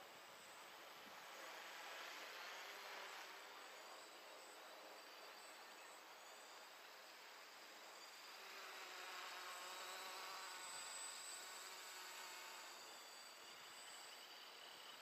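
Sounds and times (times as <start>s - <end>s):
faint quadcopter motors buzzing: 0.0s - 15.0s.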